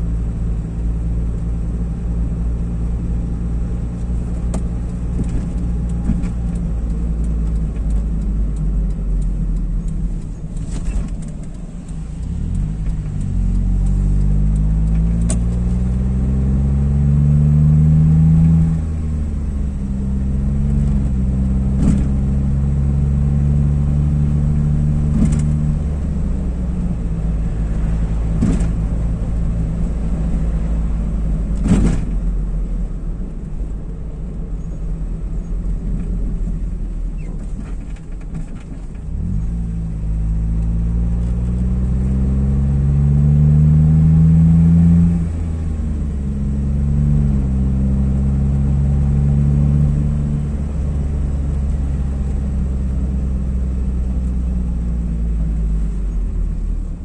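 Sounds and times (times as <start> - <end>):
car engine: 0.0 - 57.0
road rumble: 0.0 - 57.0.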